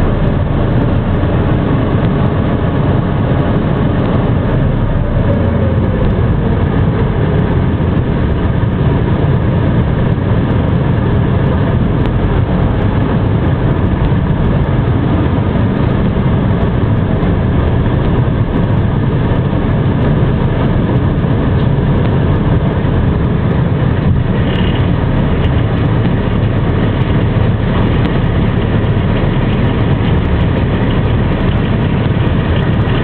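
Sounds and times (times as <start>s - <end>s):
dust-storm wind rushing: 0.0s - 33.0s
heavy vehicle engine idling: 0.0s - 33.0s.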